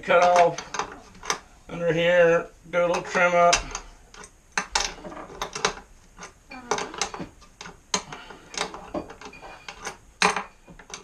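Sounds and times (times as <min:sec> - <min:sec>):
hand tools clanking on metal bolts: 0:00.0 - 0:01.4, 0:02.8 - 0:11.0.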